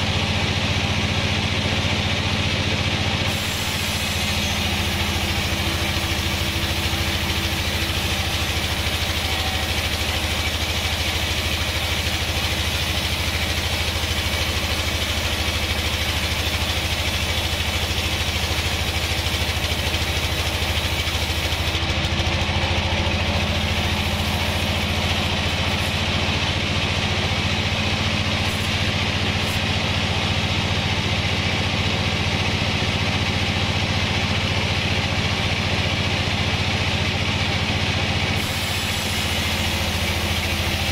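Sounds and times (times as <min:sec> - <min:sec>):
band sawmill drone: 0:00.0 - 0:40.9.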